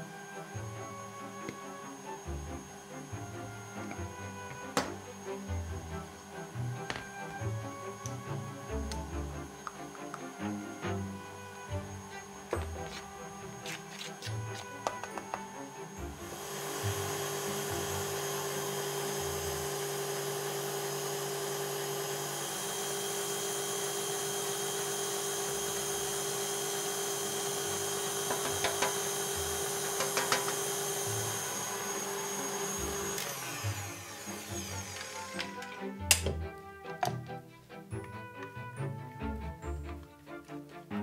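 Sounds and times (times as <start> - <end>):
electric stand mixer whisking: 0.0 - 37.2.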